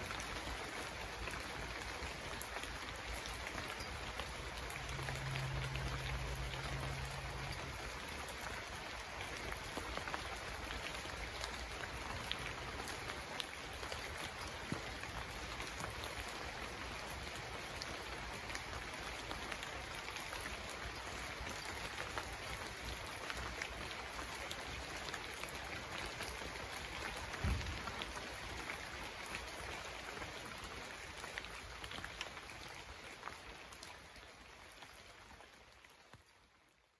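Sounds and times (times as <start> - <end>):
rain falling: 0.0 - 36.9.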